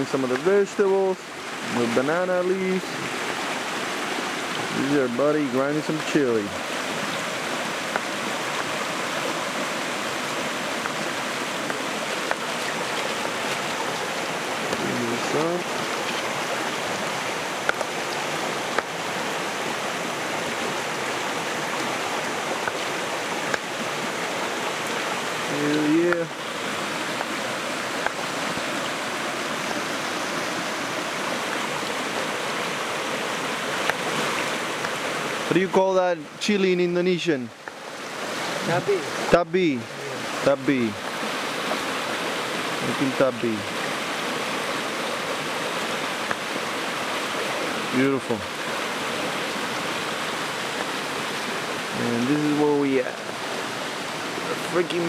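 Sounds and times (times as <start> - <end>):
shallow river flowing over stones: 0.0 - 55.0.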